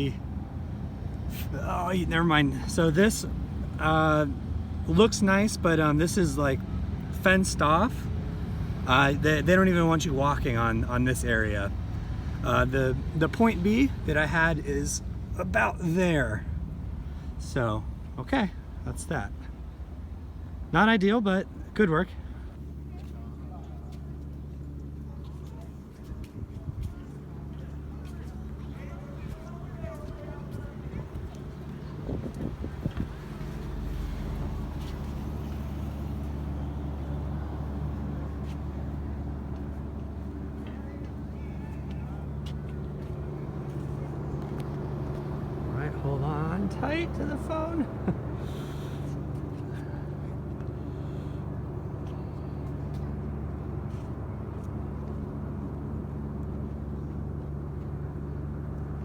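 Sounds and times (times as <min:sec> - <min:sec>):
car engine drone: 0:00.0 - 0:25.2, 0:27.1 - 0:59.0
motor vehicle rumble: 0:00.0 - 0:59.0
road noise: 0:00.0 - 0:59.0.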